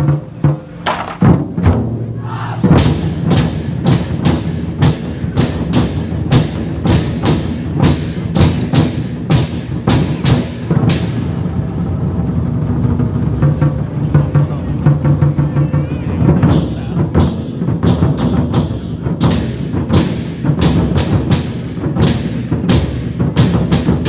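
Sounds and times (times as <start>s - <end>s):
big drum beating: 0.0s - 24.0s.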